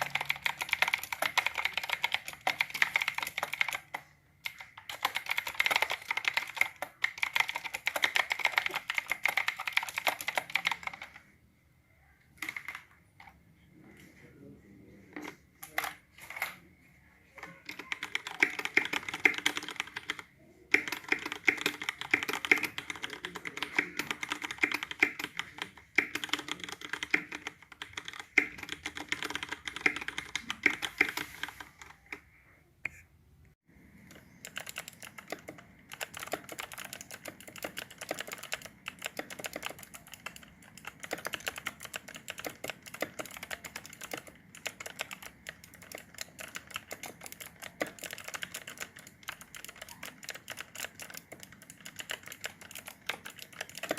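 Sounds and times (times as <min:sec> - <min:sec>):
mechanical keyboard typing: 0:00.0 - 0:11.3, 0:12.4 - 0:13.4, 0:15.1 - 0:16.6, 0:17.4 - 0:32.2, 0:34.0 - 0:53.9.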